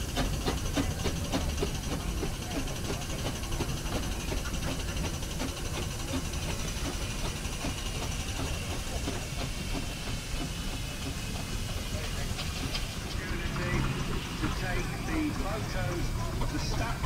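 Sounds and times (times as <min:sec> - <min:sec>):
steam hissing: 0:00.0 - 0:17.0
steam roller rumbling: 0:00.0 - 0:17.0.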